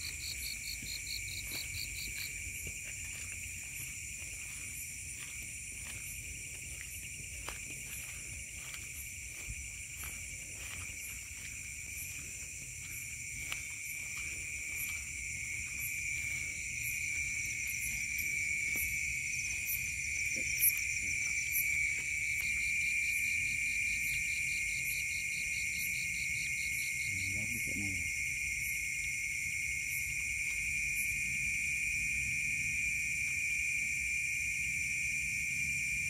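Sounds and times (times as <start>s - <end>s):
crickets and insects trilling: 0.0s - 36.0s
fast pulsing insect trill: 0.0s - 36.0s.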